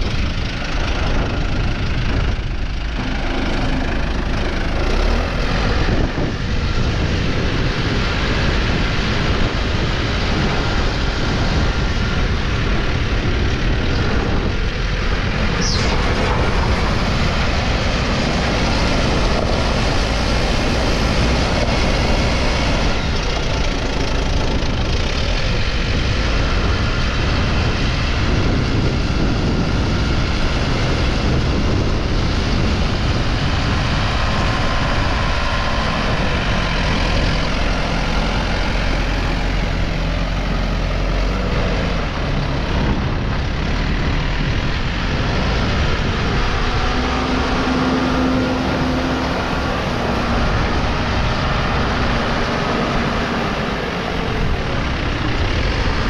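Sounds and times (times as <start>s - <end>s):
diesel engine running loudly: 0.0s - 56.0s.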